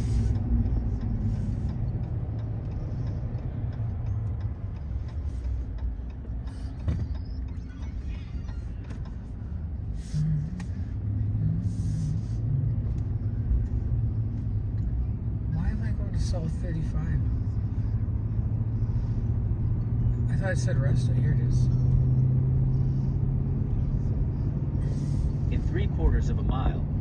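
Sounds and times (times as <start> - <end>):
car interior road noise: 0.0 - 27.0.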